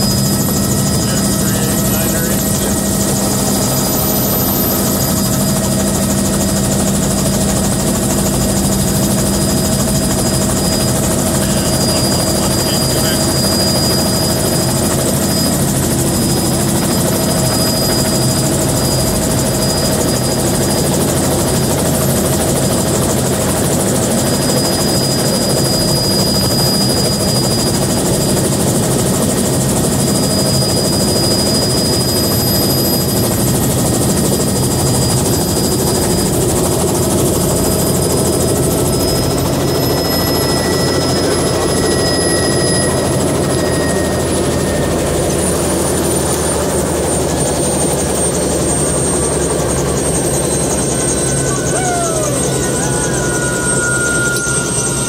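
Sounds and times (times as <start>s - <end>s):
helicopter rotor wash: 0.0s - 51.4s
turbine whine: 0.0s - 55.0s.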